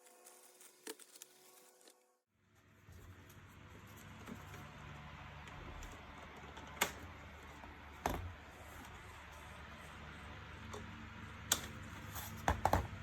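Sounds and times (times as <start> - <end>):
steady low hum: 2.4 - 13.0.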